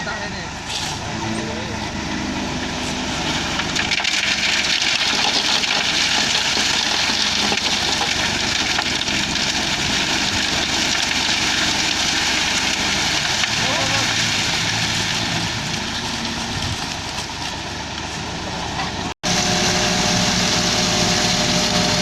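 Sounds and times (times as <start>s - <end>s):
concrete mixer truck running: 0.0s - 22.0s.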